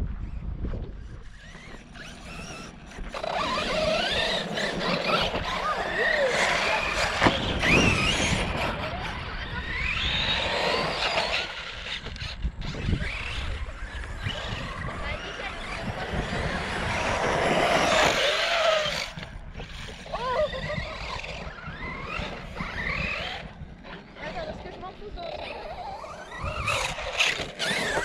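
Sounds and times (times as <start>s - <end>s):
electric motor whining: 0.2s - 28.0s.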